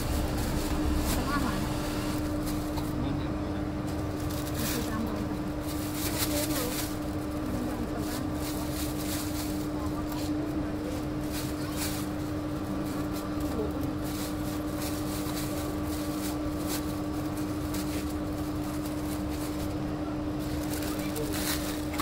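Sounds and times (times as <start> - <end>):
plastic bag crinkling: 0.0 - 3.0, 3.9 - 19.8, 20.4 - 22.0
motor hum and rumble: 0.0 - 22.0.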